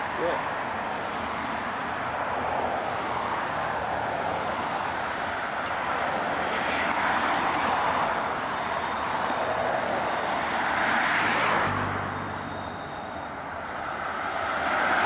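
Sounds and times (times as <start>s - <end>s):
rushing vehicle noise: 0.0s - 15.0s.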